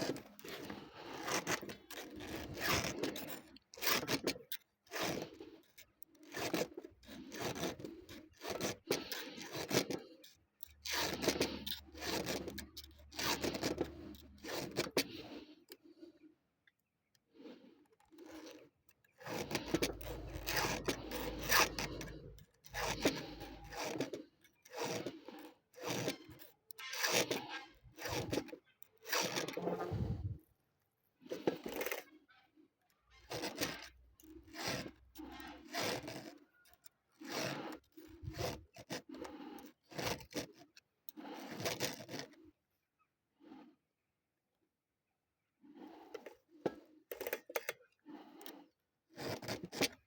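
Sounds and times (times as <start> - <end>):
hand file rasping chainsaw chain: 0.0 - 15.8, 17.6 - 30.2, 31.3 - 32.2, 33.2 - 42.4, 45.8 - 50.0.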